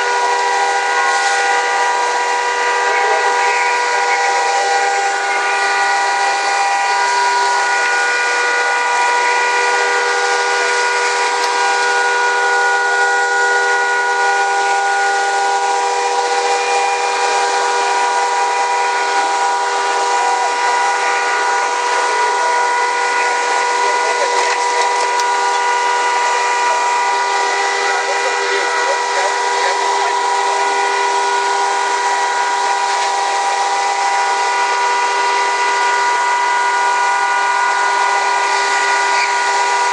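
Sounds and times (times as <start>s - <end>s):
fire engine pumps whining: 0.0s - 39.9s
fire hose water rushing: 0.0s - 39.9s.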